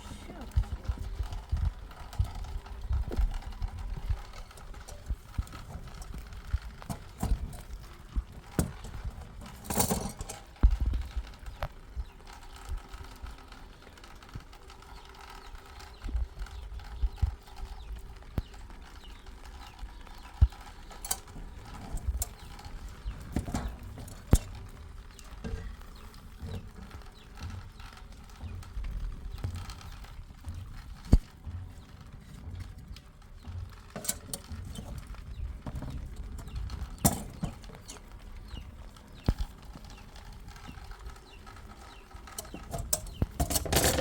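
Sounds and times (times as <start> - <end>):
knocks and clatters: 0.0 - 13.4, 14.0 - 44.0
low background rumble: 0.0 - 44.0.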